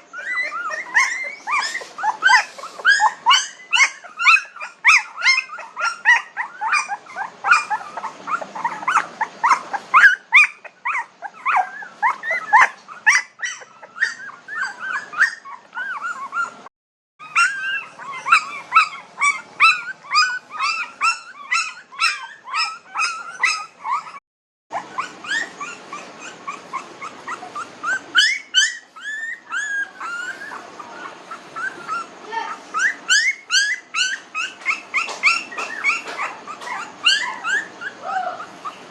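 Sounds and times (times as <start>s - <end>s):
puppies whimpering and yipping: 0.0s - 38.9s.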